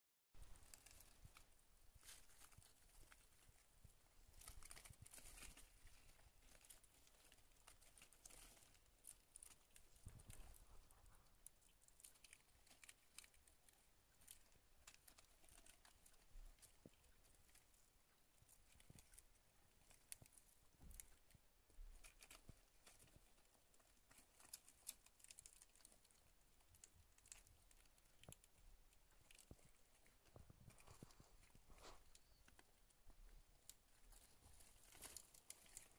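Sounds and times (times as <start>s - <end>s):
hamsters nibbling greens: 0.4s - 35.9s
hamsters scrabbling on newspaper: 0.4s - 35.9s.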